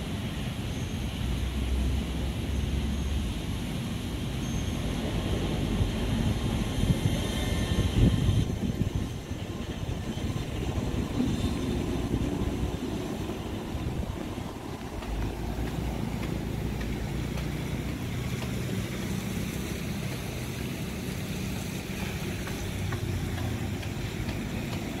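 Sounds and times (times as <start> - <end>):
passing vehicle engines rumbling: 0.0 - 25.0.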